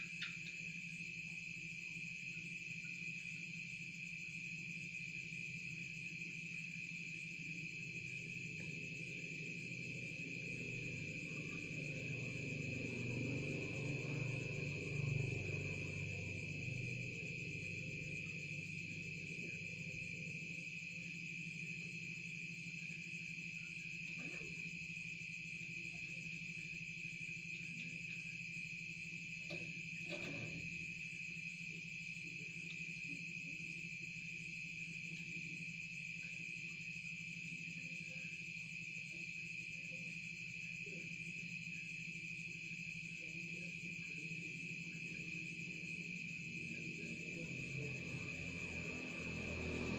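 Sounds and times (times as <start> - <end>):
high-pitched insect chorus trilling: 0.0 - 49.9.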